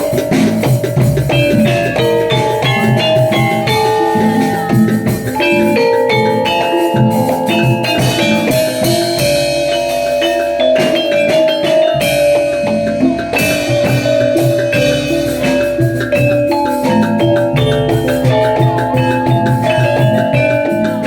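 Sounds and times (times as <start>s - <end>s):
drums: 0.0s - 21.0s
metallophones and gongs struck: 0.0s - 21.0s.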